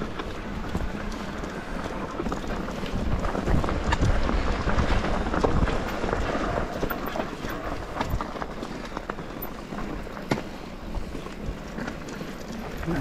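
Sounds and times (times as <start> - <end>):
bike tyres crunching on gravel: 0.0 - 13.0
clicks and rattles of stones: 0.0 - 13.0
wind rumble on microphone: 0.0 - 13.0.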